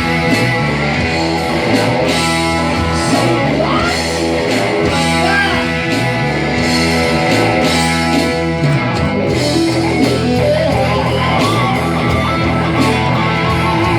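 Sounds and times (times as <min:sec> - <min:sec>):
electric guitar: 0:00.0 - 0:13.9
low bass: 0:00.0 - 0:13.9
rock band playing: 0:00.0 - 0:13.9.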